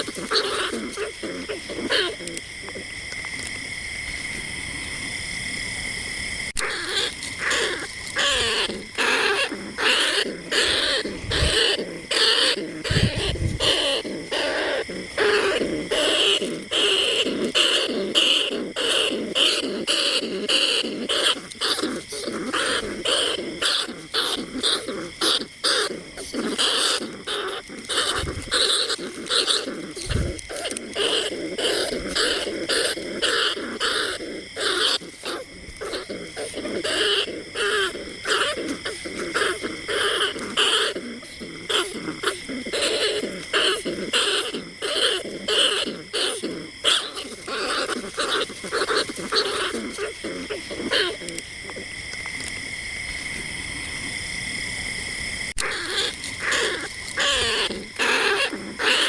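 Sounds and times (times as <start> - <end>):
shrill rat squeaks: 0.0 - 2.2, 6.6 - 41.0, 41.7 - 51.2, 55.6 - 59.0.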